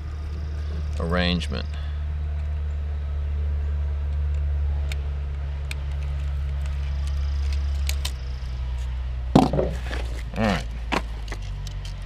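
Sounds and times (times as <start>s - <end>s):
low engine drone: 0.0s - 11.8s.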